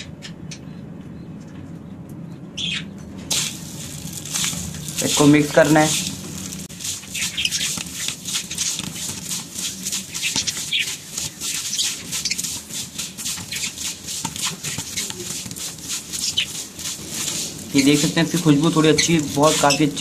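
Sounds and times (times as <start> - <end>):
bird seed rustling in steel bowl: 3.3 - 20.0.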